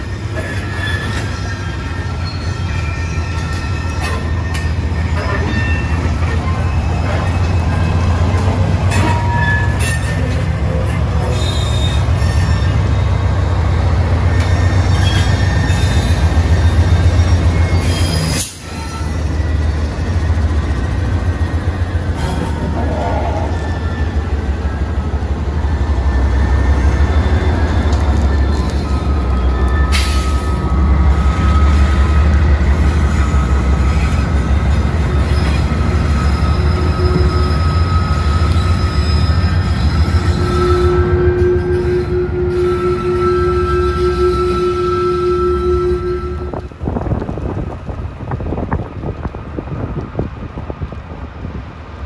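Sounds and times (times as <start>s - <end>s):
wheel flanges squealing: 0.0s - 13.3s, 14.2s - 46.6s
locomotive engine rumble: 0.0s - 52.0s.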